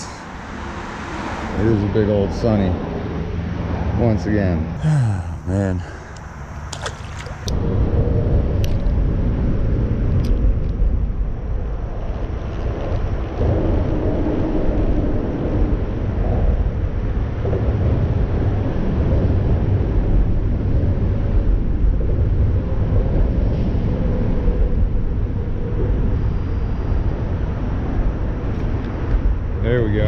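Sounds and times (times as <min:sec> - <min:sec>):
low rumbling noise: 0:00.0 - 0:30.0.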